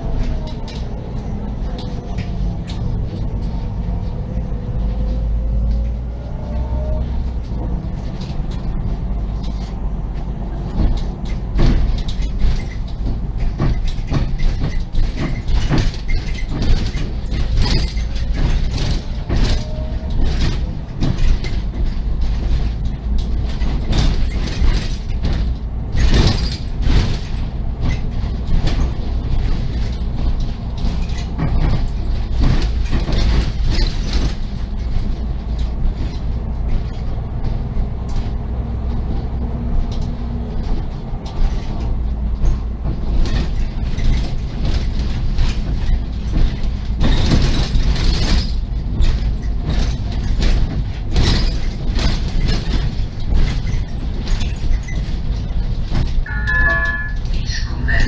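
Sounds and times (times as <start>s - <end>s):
bus body rattling and creaking: 0.0s - 58.0s
bus engine and road rumble: 0.0s - 58.0s.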